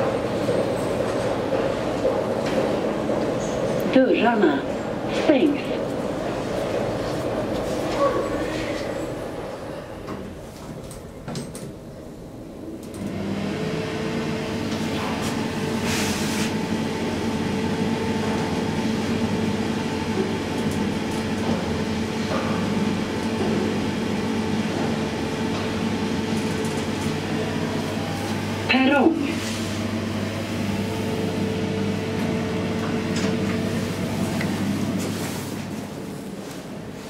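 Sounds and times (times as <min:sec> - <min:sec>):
elevator machine hum with tones: 0:00.0 - 0:37.0.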